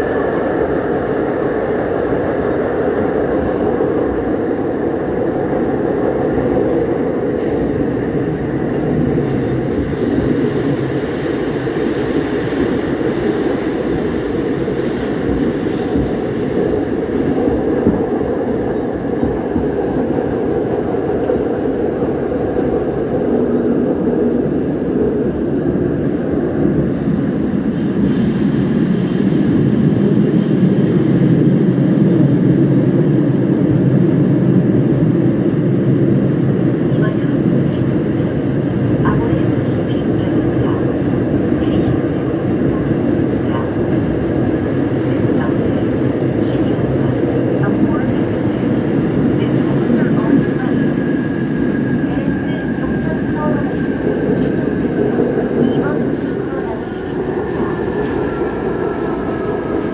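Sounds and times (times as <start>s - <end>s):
subway train rumbling in tunnel: 0.0s - 59.9s.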